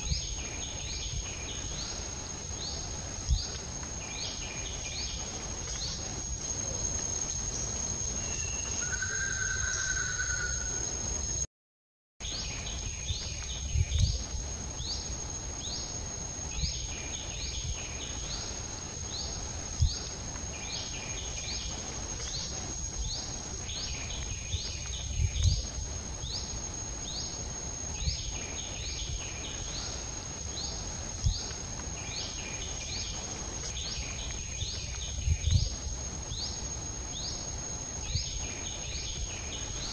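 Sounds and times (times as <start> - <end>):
insect chirps: 0.0 - 11.5, 12.2 - 39.9
insect drone: 0.0 - 11.5, 12.2 - 39.9.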